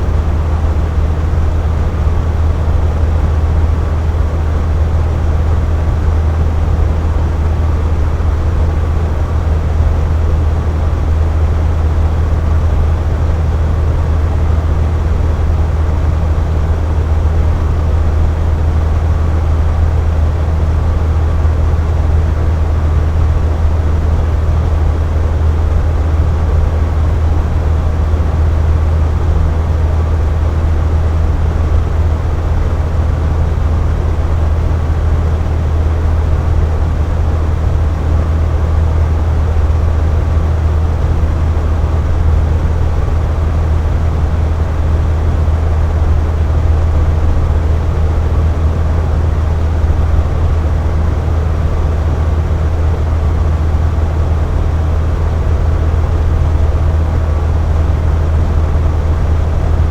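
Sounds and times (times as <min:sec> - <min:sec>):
box fan humming: 0:00.0 - 0:59.9.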